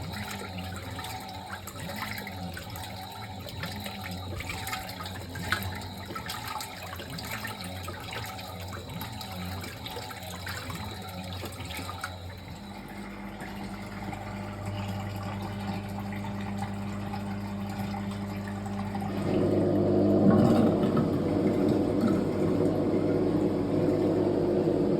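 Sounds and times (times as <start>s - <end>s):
washing machine motor hum: 0.0s - 24.9s
water swishing in washing machine: 0.0s - 24.9s.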